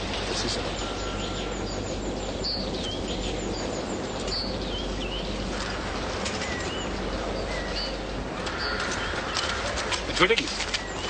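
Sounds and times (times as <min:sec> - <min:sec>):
small birds chirping: 0:00.0 - 0:11.0
steady background hiss: 0:00.0 - 0:11.0.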